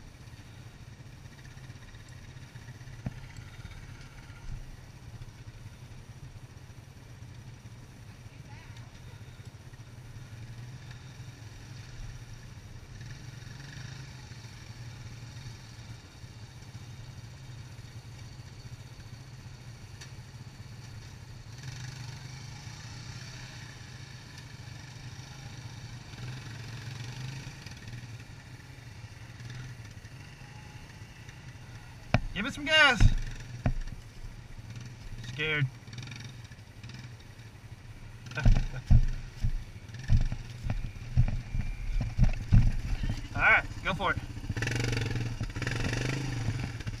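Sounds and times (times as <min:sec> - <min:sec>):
atv engines idling: 0:00.0 - 0:47.0.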